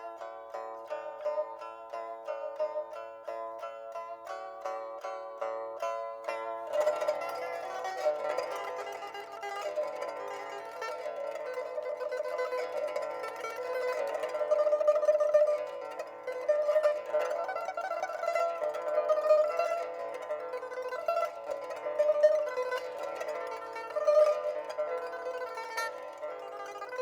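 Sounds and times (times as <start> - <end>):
plucked string melody: 0.0 - 27.0.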